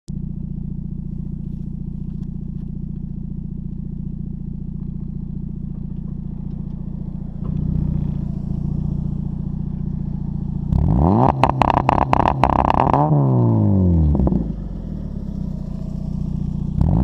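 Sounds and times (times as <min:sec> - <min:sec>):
car engine idling and revving: 0:00.1 - 0:17.0.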